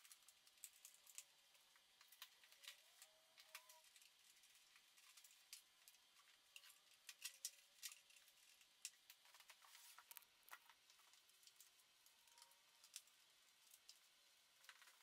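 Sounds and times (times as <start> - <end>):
small clicks and ticks: 0.0 - 15.0.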